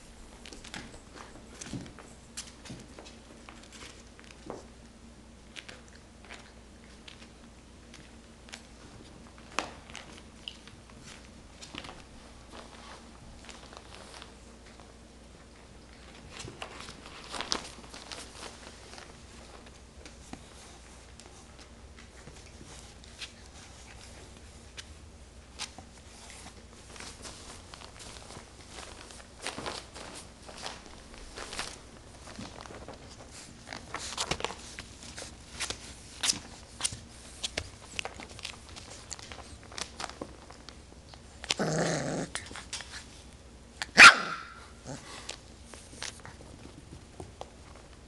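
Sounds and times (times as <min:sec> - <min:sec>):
puppy scuffling on carpet: 0:00.0 - 0:43.4, 0:44.8 - 0:48.0.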